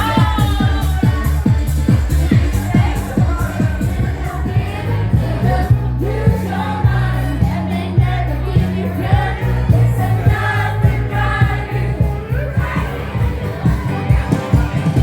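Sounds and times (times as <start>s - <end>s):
group of voices singing: 0.0s - 15.0s
loud pop music: 0.0s - 15.0s.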